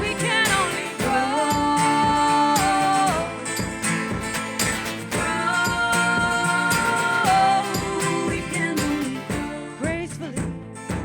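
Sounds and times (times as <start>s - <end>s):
person singing: 0.0s - 10.6s
acoustic guitar strumming: 0.0s - 11.0s.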